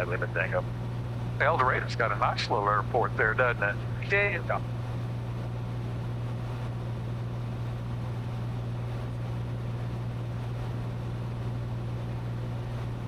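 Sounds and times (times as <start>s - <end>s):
airplane engine droning: 0.0s - 13.0s.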